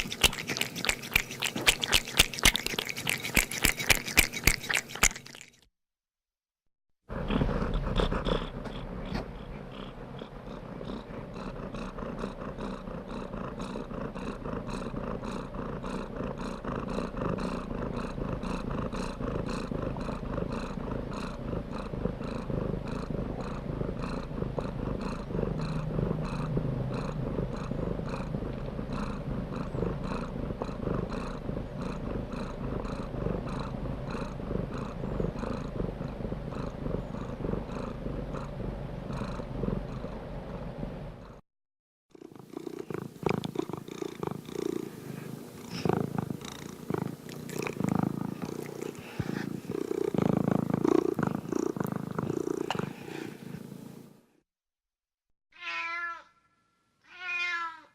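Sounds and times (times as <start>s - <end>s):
cat purring: 0.0s - 5.5s, 7.1s - 41.4s, 42.1s - 54.4s.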